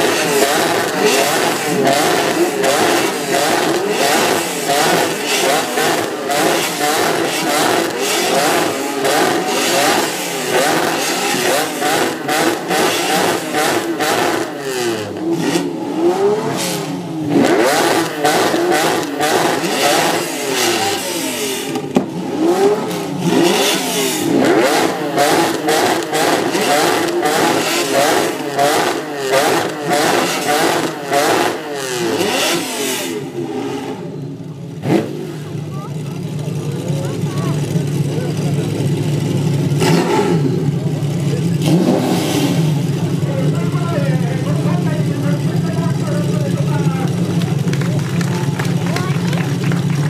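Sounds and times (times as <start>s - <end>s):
sports car engines revving: 0.0s - 50.0s.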